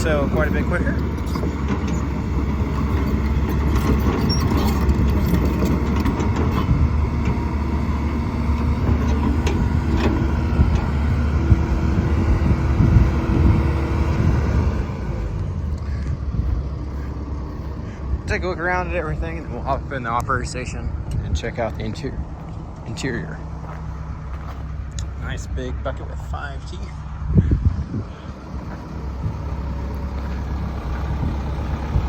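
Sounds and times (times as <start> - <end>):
excavator diesel engine drone: 0.0 - 32.0.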